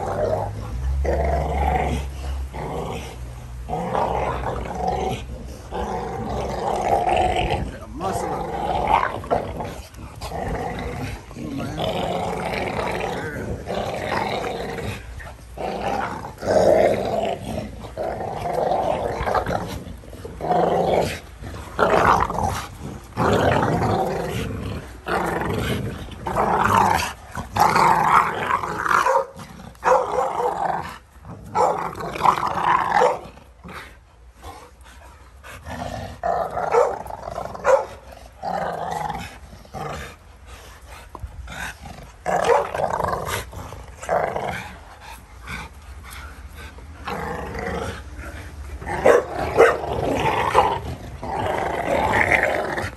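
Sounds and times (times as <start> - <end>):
dogs growling: 0.0 - 52.9.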